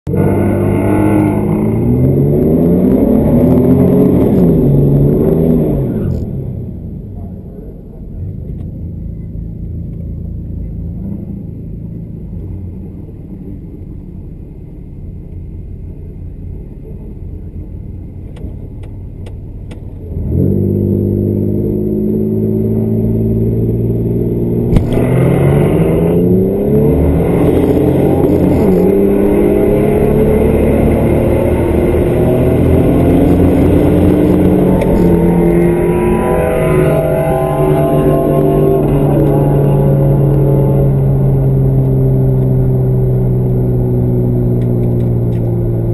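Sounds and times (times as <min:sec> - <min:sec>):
race car engines: 0:00.0 - 0:45.9.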